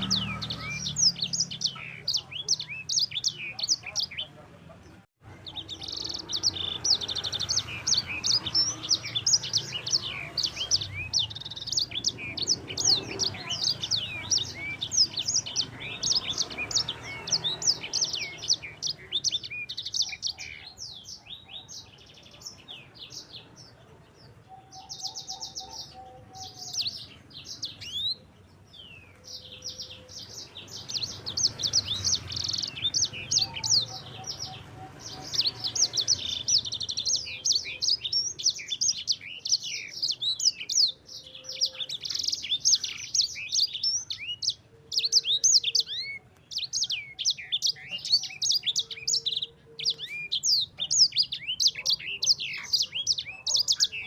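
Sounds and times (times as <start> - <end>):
songbird singing chirps and trills: 0.0 - 54.0.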